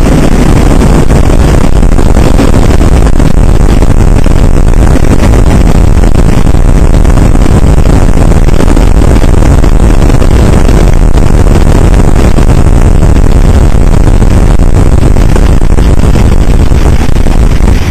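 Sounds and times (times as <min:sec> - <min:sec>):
outboard motor running: 0:00.0 - 0:17.9.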